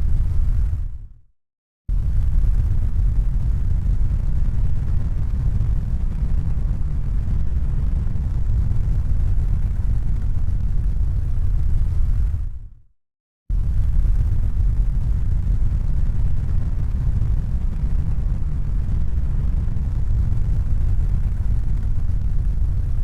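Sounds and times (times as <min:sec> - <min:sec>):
deep rumbling noise: 0:00.0 - 0:01.2, 0:01.9 - 0:12.6, 0:13.5 - 0:23.0.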